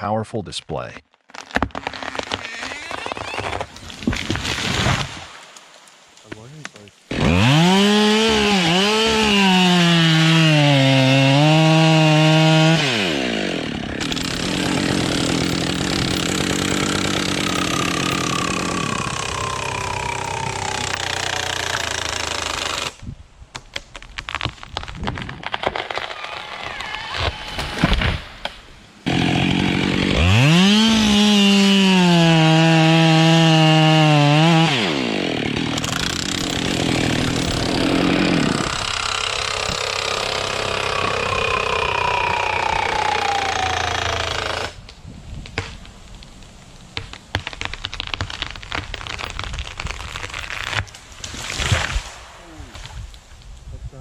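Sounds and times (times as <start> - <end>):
chainsaw cutting wood: 1.4 - 5.1, 7.1 - 23.1, 23.7 - 28.2, 29.0 - 44.8, 47.0 - 52.0.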